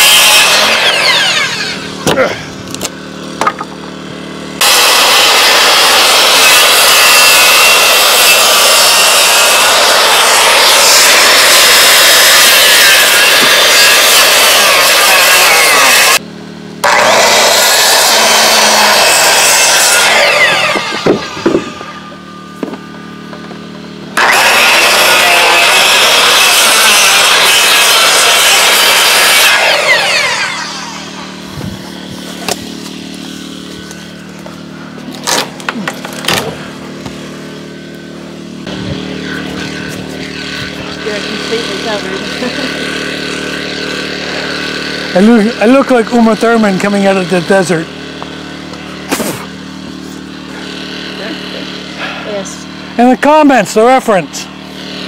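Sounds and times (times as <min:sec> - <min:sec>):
circular saw cutting wood: 0:00.0 - 0:16.2, 0:16.8 - 0:55.0.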